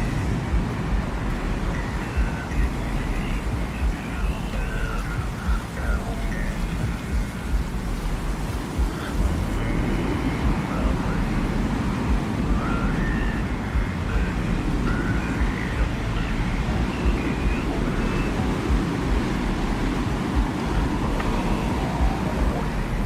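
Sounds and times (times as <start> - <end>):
low rumbling wind: 0.0 - 23.0.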